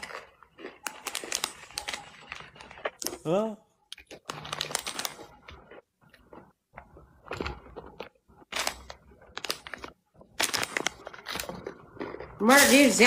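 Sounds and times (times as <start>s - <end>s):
person chewing crunchy chips: 0.0s - 3.3s, 4.0s - 12.7s.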